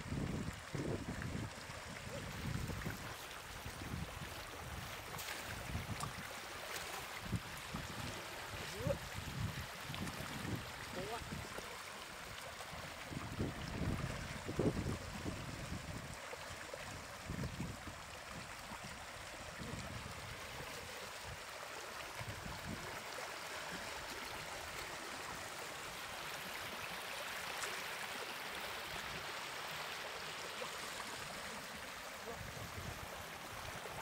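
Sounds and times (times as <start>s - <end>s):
flowing water: 0.0s - 34.0s.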